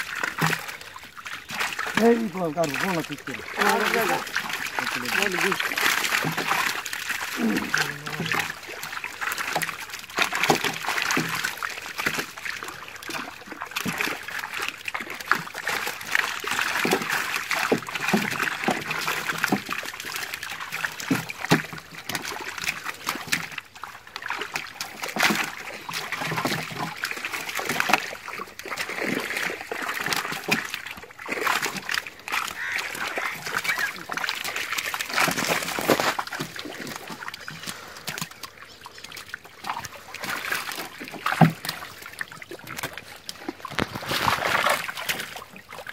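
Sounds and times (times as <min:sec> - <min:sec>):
fish splashing in water: 0:00.0 - 0:45.9.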